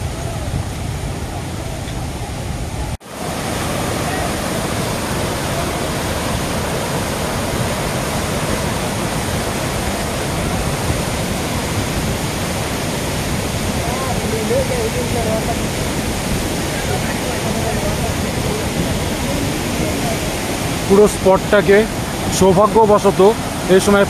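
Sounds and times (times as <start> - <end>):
waterfall crashing over rocks: 0.0 - 24.0.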